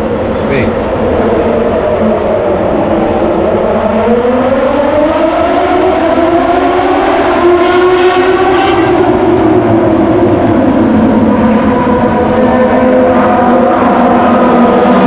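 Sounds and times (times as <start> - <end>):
racing motorcycles accelerating: 1.0 - 15.0.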